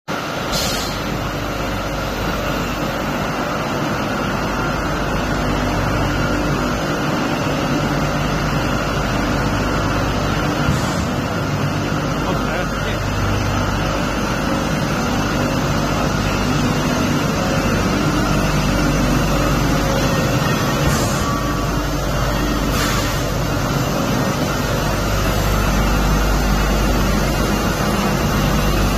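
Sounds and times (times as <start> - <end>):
machinery humming: 0.1 - 28.9
steady tones: 1.1 - 28.9.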